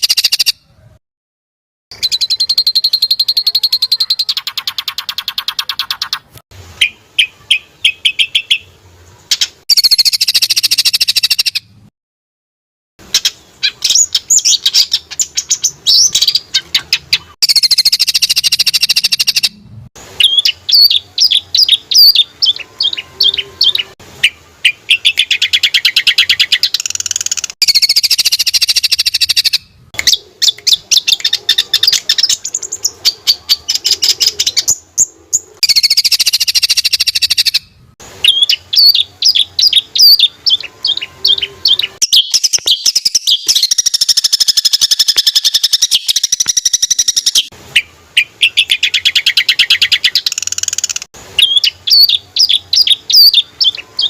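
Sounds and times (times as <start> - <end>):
songbird rolling trill song: 1.9 - 8.7, 13.1 - 54.0.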